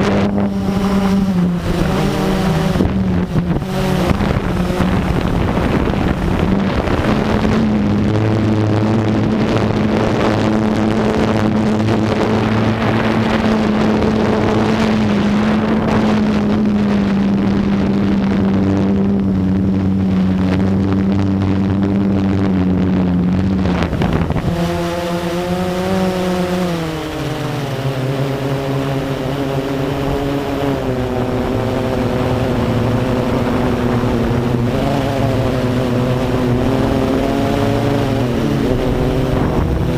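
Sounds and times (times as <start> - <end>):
quadcopter propellers buzzing: 0.0 - 39.9.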